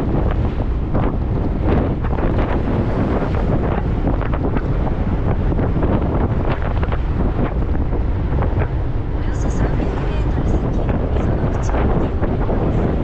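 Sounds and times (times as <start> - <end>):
road noise: 0.0 - 13.0
wind buffeting the microphone: 0.0 - 13.0.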